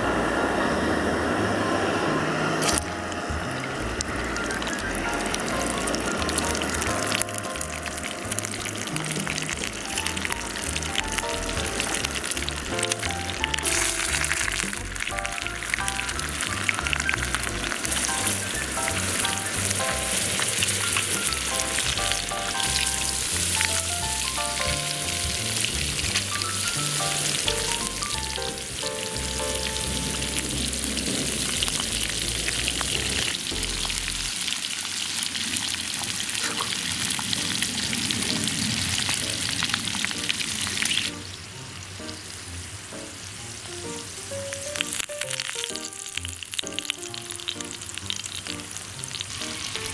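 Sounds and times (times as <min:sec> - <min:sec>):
oil sizzling in a pan: 0:02.6 - 0:49.9.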